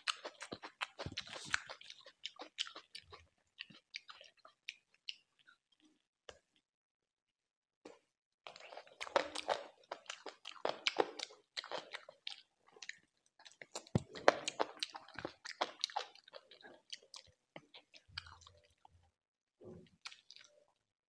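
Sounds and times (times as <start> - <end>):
person chewing crunchy food: 0.0 - 6.6, 7.9 - 19.0, 19.8 - 20.8.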